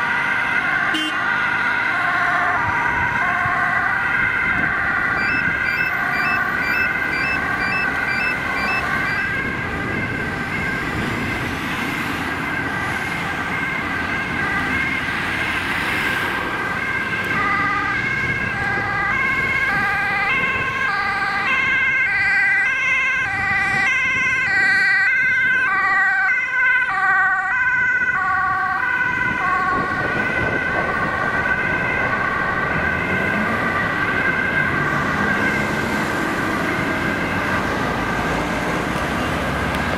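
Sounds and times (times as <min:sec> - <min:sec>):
road traffic: 0:00.0 - 0:39.9
two-tone ambulance siren: 0:00.0 - 0:39.9.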